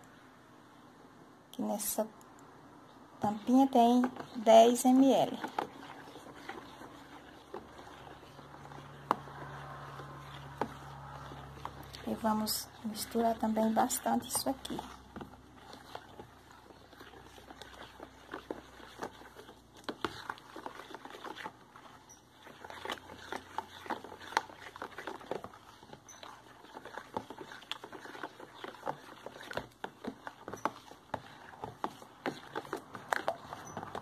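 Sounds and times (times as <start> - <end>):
spatula scraping and tapping bowl: 3.2 - 34.0.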